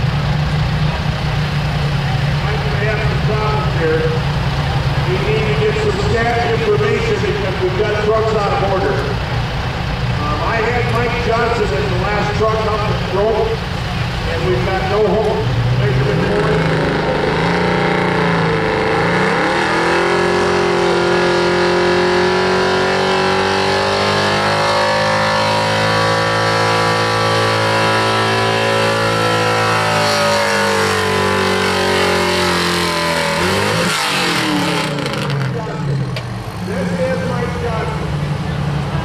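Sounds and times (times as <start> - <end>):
truck engine at high revs: 0.0 - 39.0.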